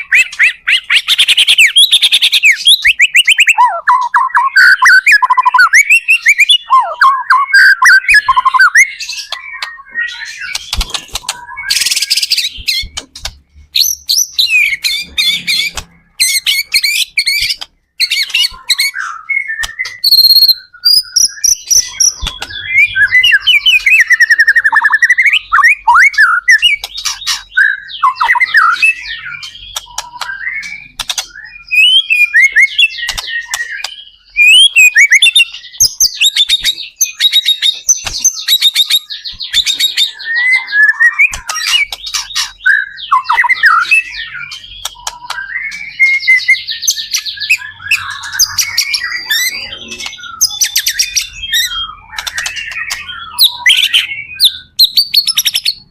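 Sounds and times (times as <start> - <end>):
bird singing whistles and trills: 0.0 - 55.9.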